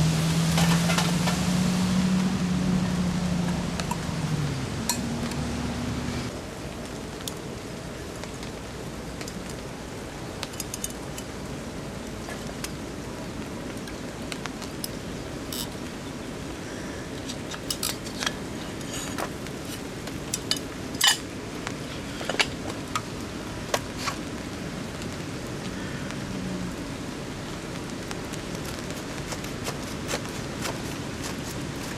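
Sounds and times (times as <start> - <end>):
rain hissing: 0.0 - 31.9.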